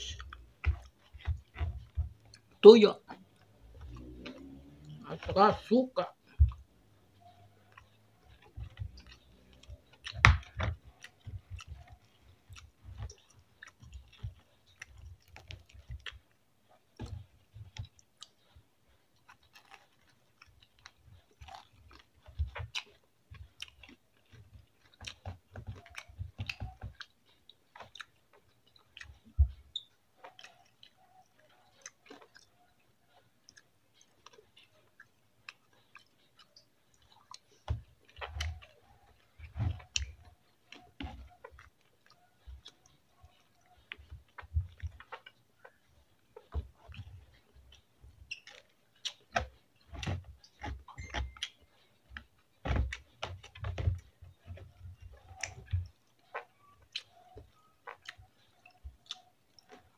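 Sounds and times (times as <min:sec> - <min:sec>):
man chewing with wet mouth sounds: 0:00.0 - 0:59.9.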